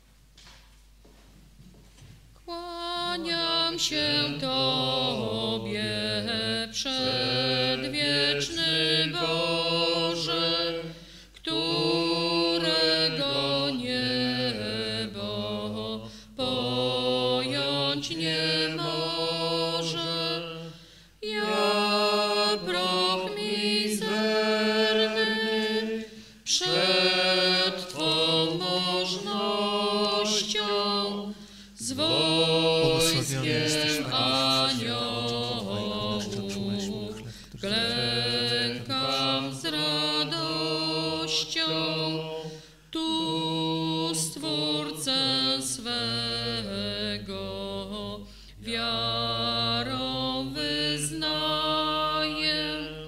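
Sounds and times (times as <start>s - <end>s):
unaccompanied hymn singing: 2.5s - 53.0s.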